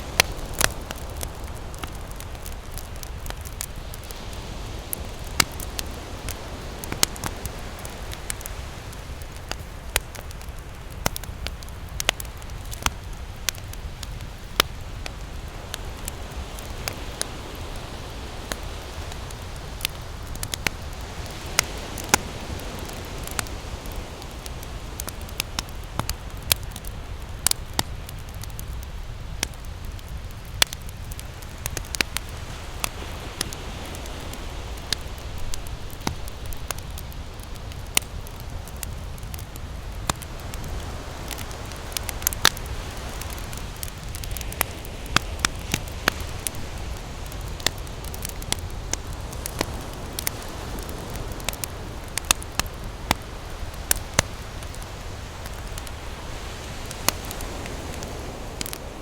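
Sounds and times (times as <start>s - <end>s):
campfire crackling: 0.0s - 59.0s
ocean waves: 0.0s - 59.0s.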